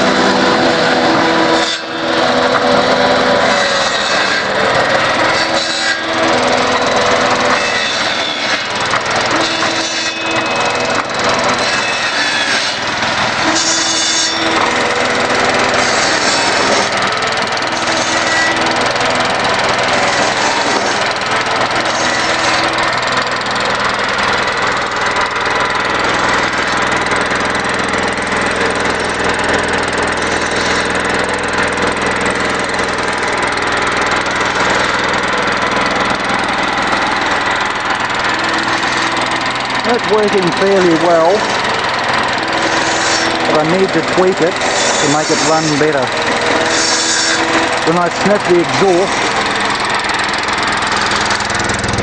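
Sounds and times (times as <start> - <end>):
bursts of clatter: 0.0 - 45.2, 45.8 - 52.0
small engine humming: 0.0 - 52.0.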